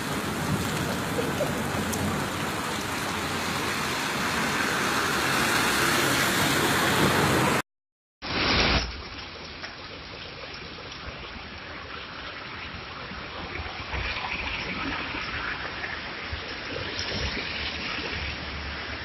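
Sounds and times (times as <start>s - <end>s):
heavy rain on street: 0.0s - 7.6s, 8.2s - 19.0s.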